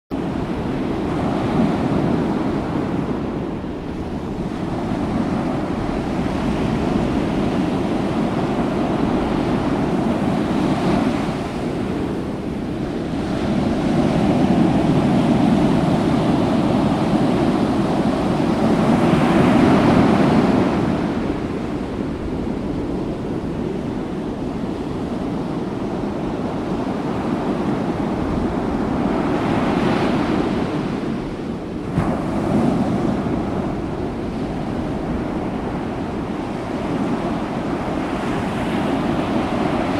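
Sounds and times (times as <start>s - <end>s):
rushing sea water: 0.1s - 39.9s.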